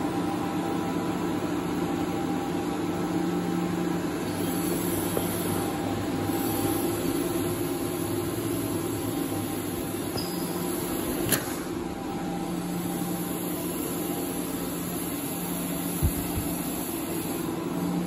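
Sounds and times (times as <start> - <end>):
cooling fan rushing: 0.0 - 18.0
induction stove electrical hum: 0.0 - 18.0.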